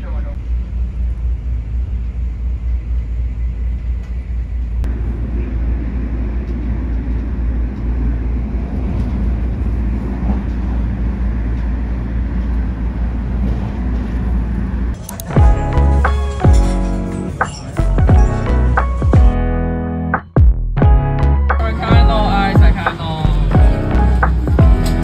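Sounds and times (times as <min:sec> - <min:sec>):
train rumble inside carriage: 0:00.0 - 0:19.4, 0:21.6 - 0:25.0.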